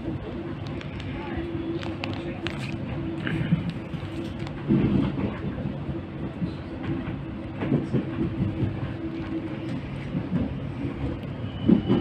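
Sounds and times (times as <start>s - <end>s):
train rumbling from inside carriage: 0.0s - 12.0s.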